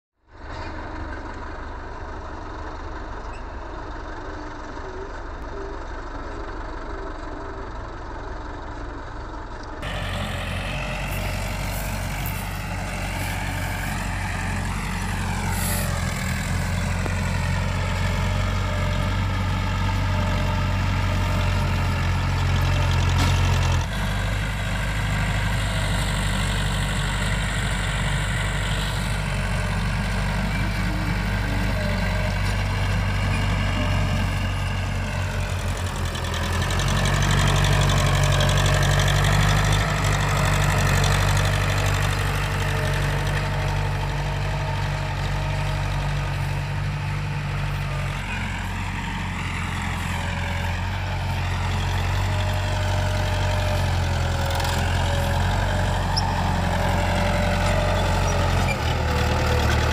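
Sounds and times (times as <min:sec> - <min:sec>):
tractor diesel engine running: 0:00.2 - 0:59.9.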